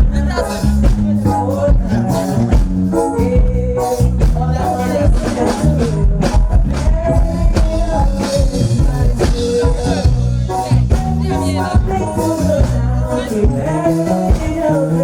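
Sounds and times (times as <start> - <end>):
music with drum beat and bass: 0.0 - 15.0
person singing: 0.0 - 15.0.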